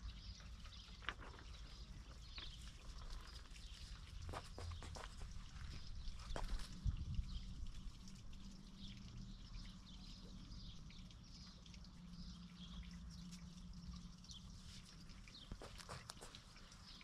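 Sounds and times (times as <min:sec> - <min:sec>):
birds chirping: 0:00.0 - 0:17.0
low steady hum: 0:00.0 - 0:17.0.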